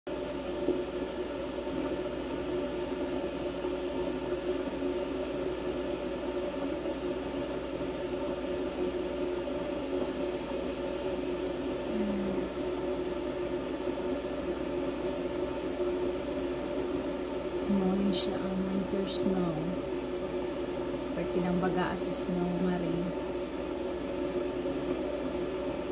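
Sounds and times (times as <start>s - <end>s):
machine hum with even tones: 0.1s - 25.9s.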